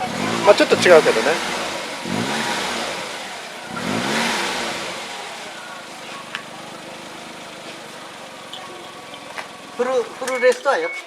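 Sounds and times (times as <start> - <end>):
small car engine revving: 0.0 - 10.2.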